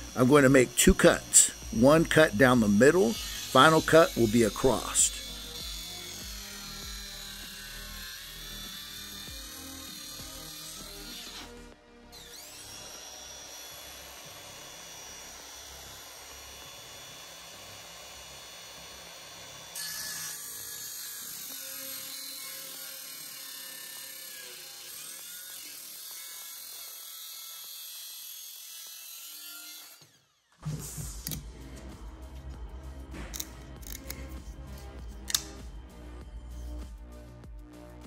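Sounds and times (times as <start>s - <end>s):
circular saw cutting wood: 0.0s - 31.3s.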